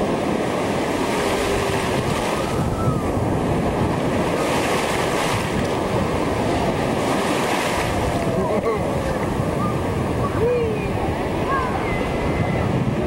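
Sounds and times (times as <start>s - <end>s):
surf washing on shore: 0.0s - 13.0s
wave splashing: 0.0s - 13.0s
wind on microphone: 0.0s - 13.0s.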